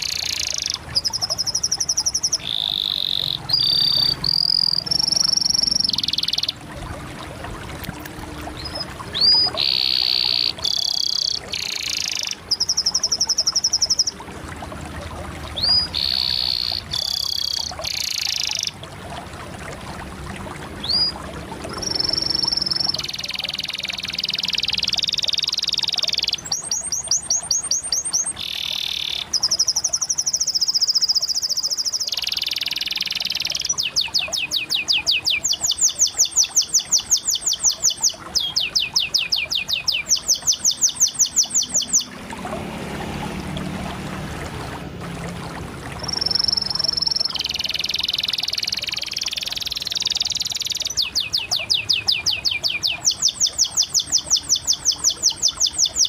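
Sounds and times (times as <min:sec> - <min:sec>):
canary singing trills: 0:00.0 - 0:06.6, 0:08.5 - 0:14.2, 0:15.6 - 0:18.8, 0:20.8 - 0:42.1, 0:46.0 - 0:56.0.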